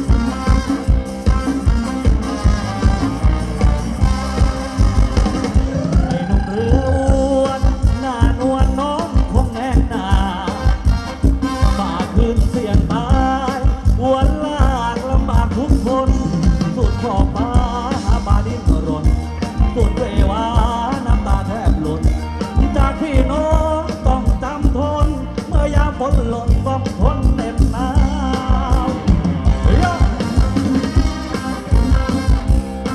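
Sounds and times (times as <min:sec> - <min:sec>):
driving drum and bass beat: 0:00.0 - 0:32.9
person singing: 0:05.4 - 0:32.9.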